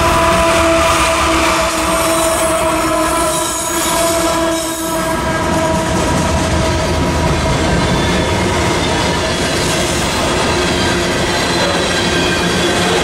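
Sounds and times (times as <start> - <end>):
freight train passing: 0.0 - 13.0
wheel and rail noise: 0.0 - 13.0.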